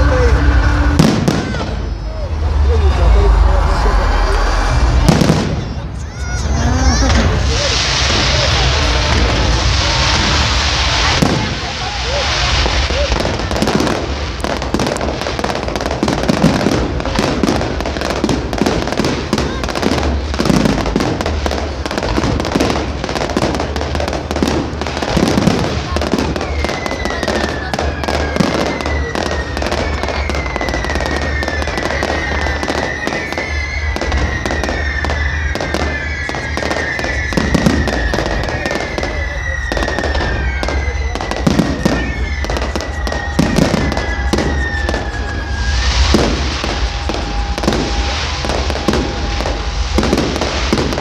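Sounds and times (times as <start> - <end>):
fireworks bangs and pops: 0.0 - 2.7, 4.3 - 51.0
fireworks crackling hiss: 0.0 - 51.0
whistling fireworks: 0.0 - 51.0.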